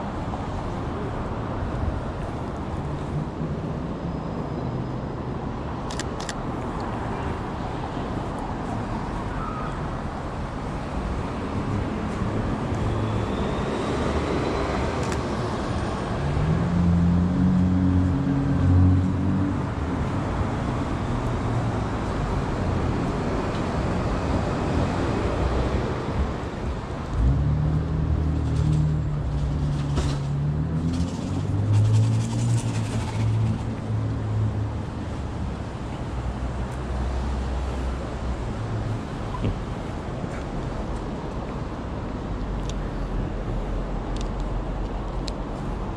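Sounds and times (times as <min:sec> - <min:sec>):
heavy vehicle engines passing: 0:00.0 - 0:45.9
hum of car traffic: 0:00.0 - 0:45.9.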